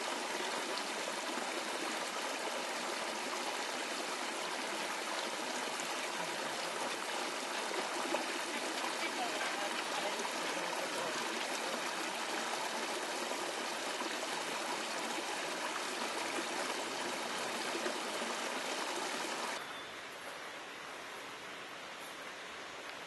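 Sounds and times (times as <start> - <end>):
water rushing down stone channel: 0.0 - 19.6.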